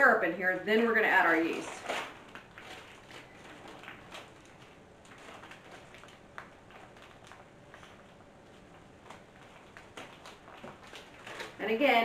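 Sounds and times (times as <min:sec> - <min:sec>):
plastic bag crinkling: 0:00.7 - 0:12.0.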